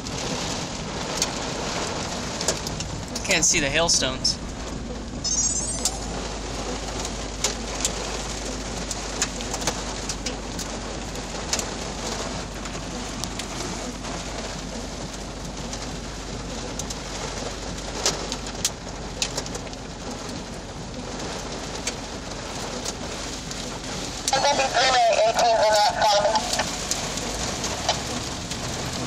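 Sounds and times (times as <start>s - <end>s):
car rumbling while moving: 0.0s - 29.0s
heavy rain drumming on car roof: 0.0s - 29.0s
raindrops ticking on glass: 0.0s - 29.0s.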